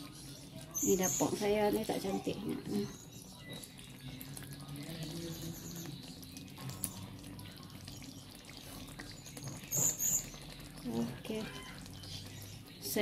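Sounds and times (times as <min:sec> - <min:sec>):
stew bubbling in a wok: 0:00.0 - 0:13.0.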